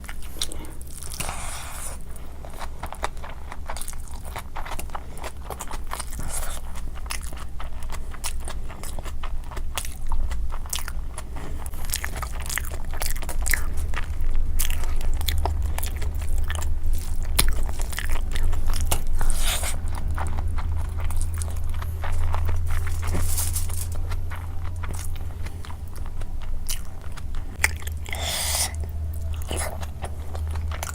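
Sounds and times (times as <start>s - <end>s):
crunchy biting and chewing: 0.0s - 30.9s
steady low hum: 0.0s - 30.9s.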